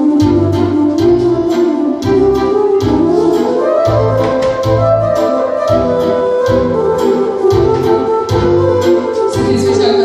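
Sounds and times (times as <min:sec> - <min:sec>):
electronic keyboard music: 0:00.0 - 0:10.0.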